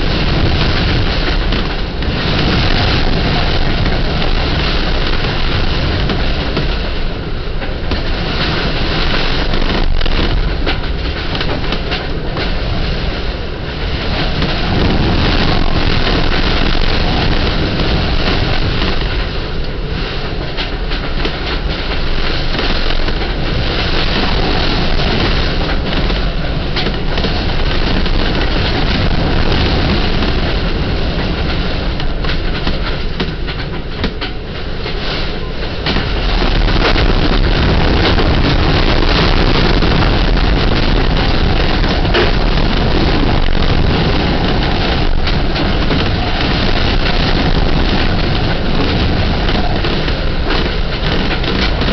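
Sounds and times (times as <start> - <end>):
knocks and rattles: 0.0 - 51.9
wind buffeting a boat: 0.0 - 51.9.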